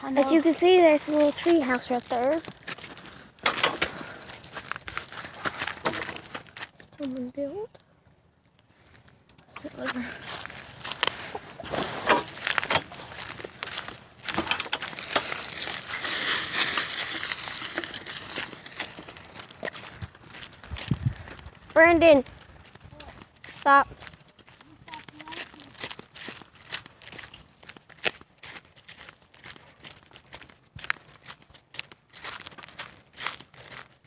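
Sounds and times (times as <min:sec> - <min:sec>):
dry leaves crunching underfoot: 0:00.3 - 0:06.8, 0:09.7 - 0:34.0.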